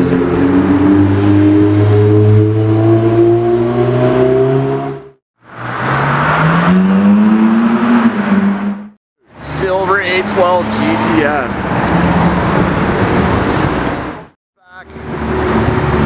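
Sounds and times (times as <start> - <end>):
sports car accelerating: 0.0 - 14.1.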